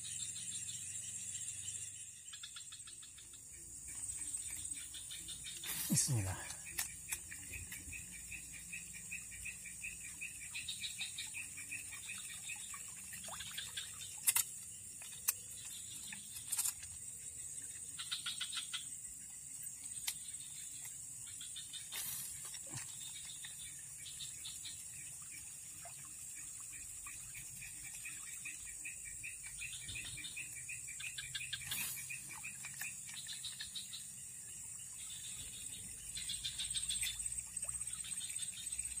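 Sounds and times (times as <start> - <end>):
trilling calls of insects or frogs: 0.0 - 39.0.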